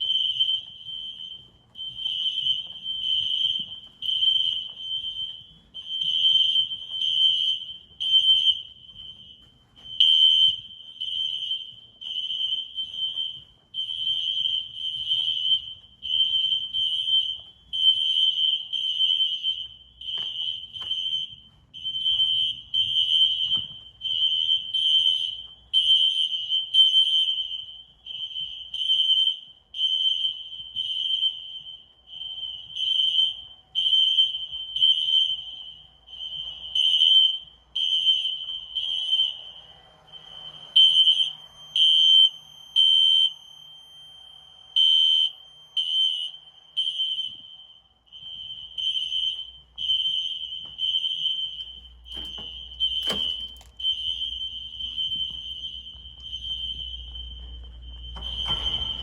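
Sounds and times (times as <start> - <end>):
fire alarm horn blasts: 0.0 - 59.0.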